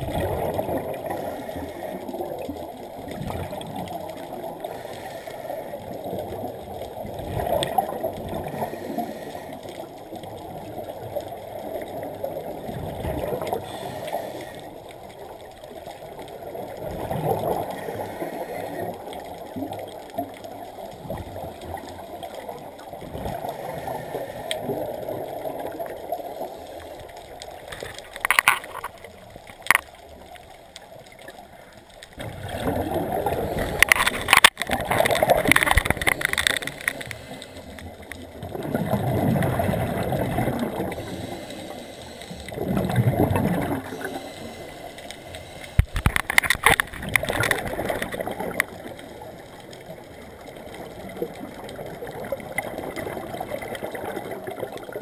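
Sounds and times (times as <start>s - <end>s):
underwater bubbles gurgling: 0.0s - 55.0s.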